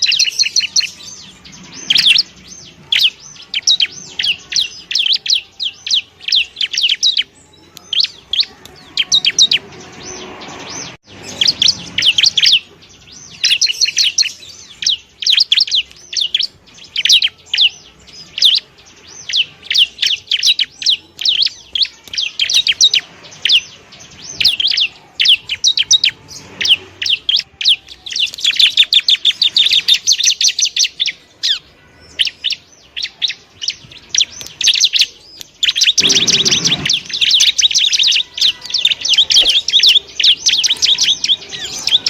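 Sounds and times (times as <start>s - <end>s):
bird singing high chirps: 0.0s - 42.0s.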